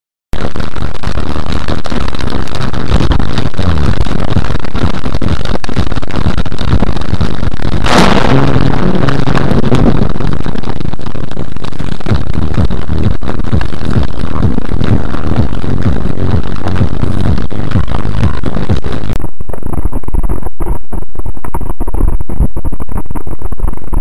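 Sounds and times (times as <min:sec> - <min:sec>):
distorted rushing noise: 0:00.4 - 0:24.0
sharp crack: 0:00.4 - 0:24.0.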